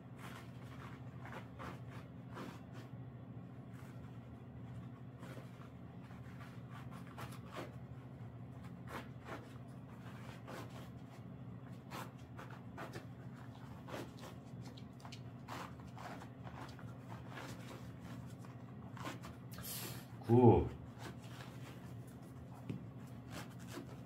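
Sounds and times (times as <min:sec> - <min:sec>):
bandage rustling and scratching: 0:00.0 - 0:19.5, 0:20.8 - 0:24.0
steady low hum: 0:00.0 - 0:24.0.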